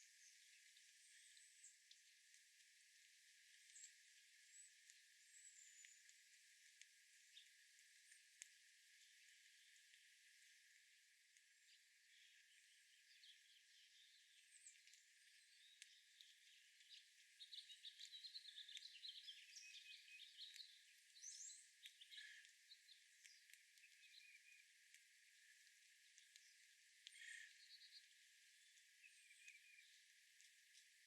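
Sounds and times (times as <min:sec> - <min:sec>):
songbirds chirping: 0:02.9 - 0:31.0.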